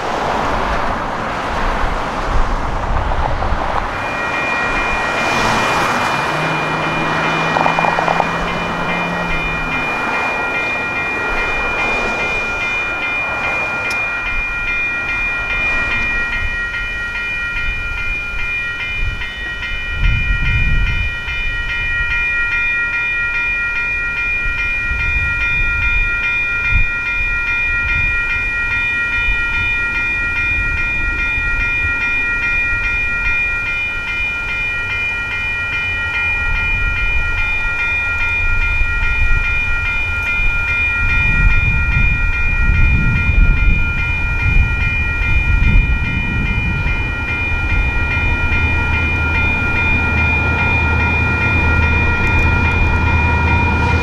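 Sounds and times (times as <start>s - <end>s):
crossing warning bell ringing: 0.0s - 2.6s, 3.3s - 54.0s
train rumbling: 0.0s - 54.0s.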